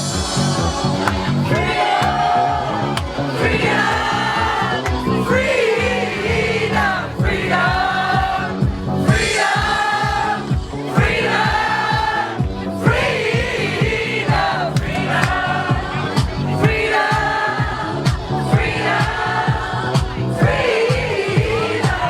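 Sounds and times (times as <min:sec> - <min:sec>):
chorus of voices singing: 0:00.0 - 0:22.0
house music: 0:00.0 - 0:22.0
steady kick drum: 0:00.1 - 0:22.0.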